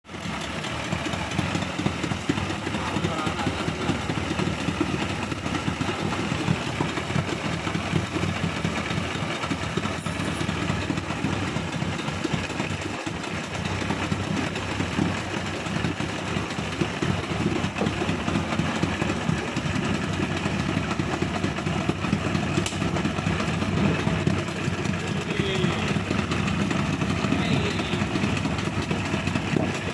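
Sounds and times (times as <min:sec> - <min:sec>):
outboard motor running: 0:00.0 - 0:29.9.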